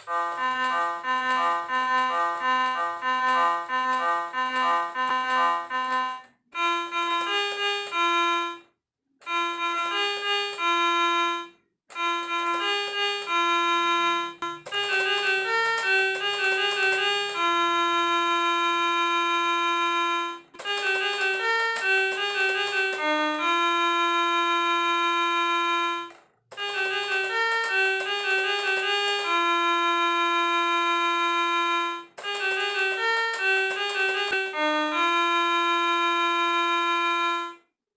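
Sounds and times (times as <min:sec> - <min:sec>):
electronic keyboard melody: 0:00.0 - 0:37.8.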